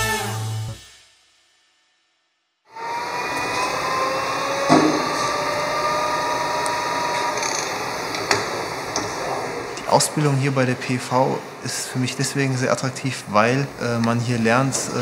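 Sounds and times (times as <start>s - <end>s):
machining hiss: 2.7s - 15.0s
metal lathe whine: 2.7s - 15.0s.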